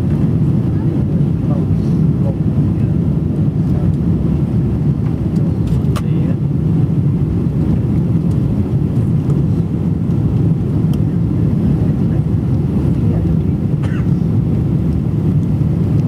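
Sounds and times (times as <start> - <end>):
jet engines roaring in cabin: 0.0 - 16.0.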